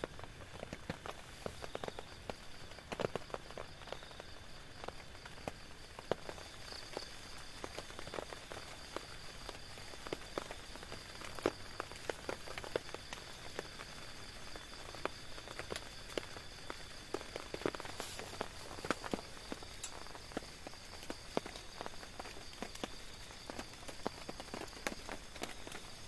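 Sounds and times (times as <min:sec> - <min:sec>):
rain pattering on a tent: 0:00.0 - 0:26.0
steady high-pitched hiss: 0:00.0 - 0:26.0.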